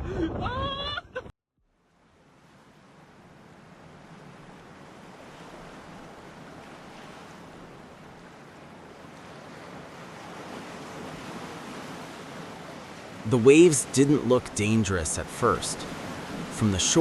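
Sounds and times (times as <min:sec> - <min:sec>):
waves breaking: 0:01.8 - 0:17.0.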